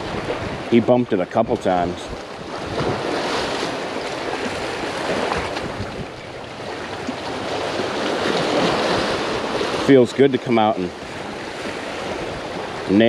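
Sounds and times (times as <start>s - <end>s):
waves splashing over rocks: 0.0s - 13.0s.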